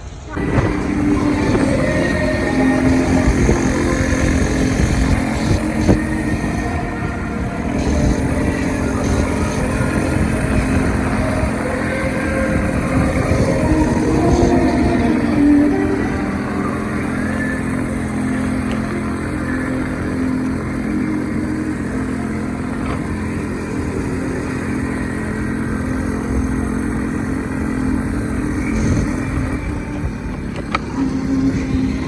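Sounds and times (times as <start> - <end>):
small motorcycle engine running: 0.0 - 32.0.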